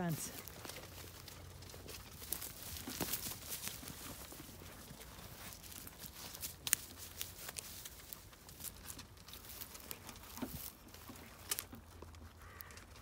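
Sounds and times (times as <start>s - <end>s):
sheep chewing feed: 0.0s - 13.0s.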